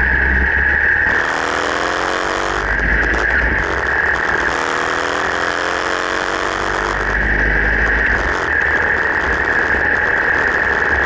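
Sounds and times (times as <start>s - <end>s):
motorcycle engine running: 0.0s - 11.0s
road noise: 0.0s - 11.0s
wind noise: 0.0s - 11.0s.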